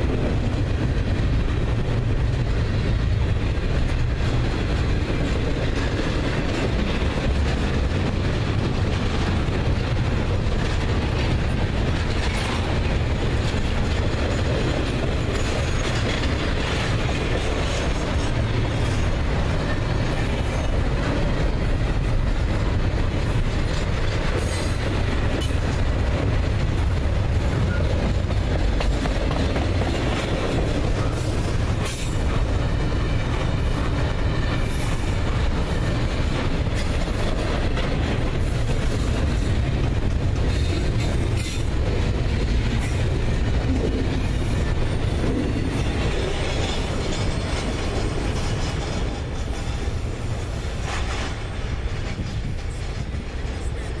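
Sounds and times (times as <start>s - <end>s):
steel wheels on rail: 0.0s - 54.0s.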